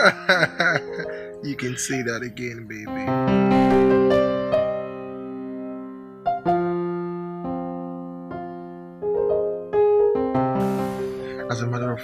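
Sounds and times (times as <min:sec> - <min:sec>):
slow keyboard chords: 0:00.0 - 0:12.0.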